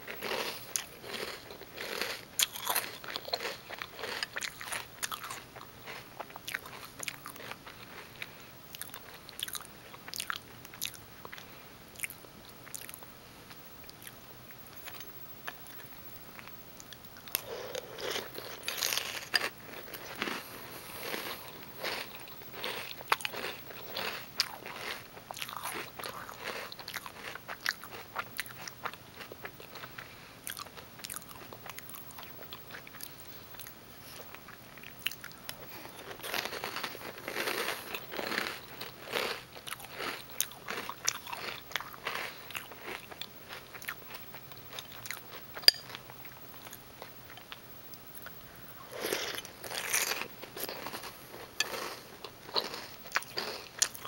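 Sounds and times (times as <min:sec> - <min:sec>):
chewing crunchy cereal: 0:00.0 - 0:47.6, 0:48.2 - 0:54.0.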